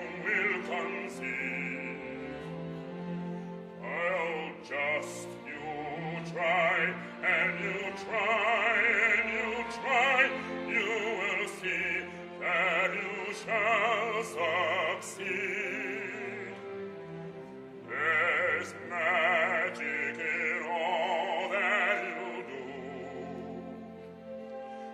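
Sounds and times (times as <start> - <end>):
operatic singing with vibrato: 0.0 - 24.9.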